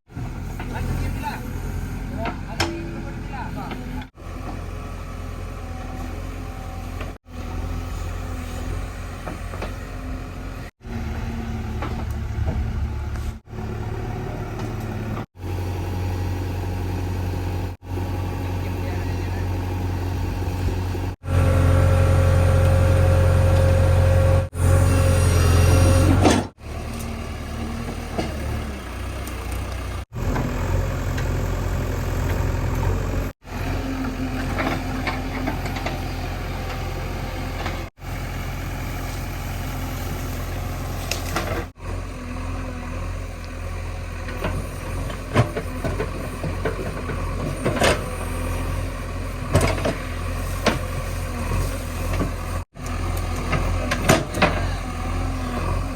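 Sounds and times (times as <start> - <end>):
diesel engine running: 0.1 - 55.9.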